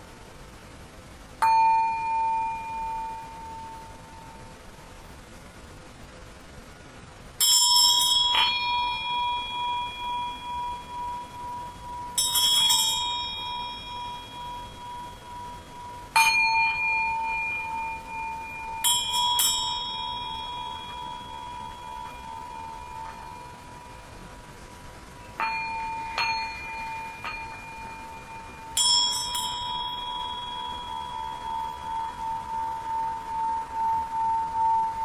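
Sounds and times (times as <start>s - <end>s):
singing bowls ringing: 1.1s - 5.2s, 7.3s - 35.0s.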